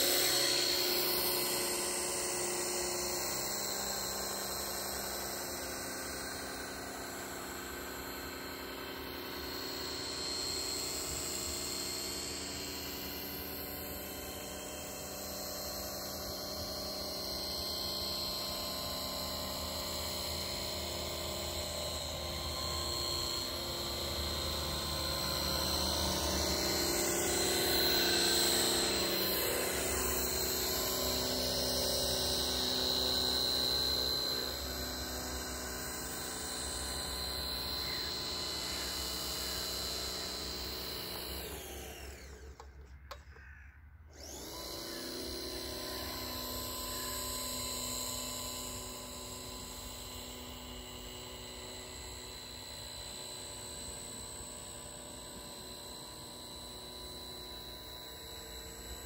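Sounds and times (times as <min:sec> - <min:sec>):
model boat motor whining: 0:00.0 - 0:43.5, 0:44.1 - 0:59.0.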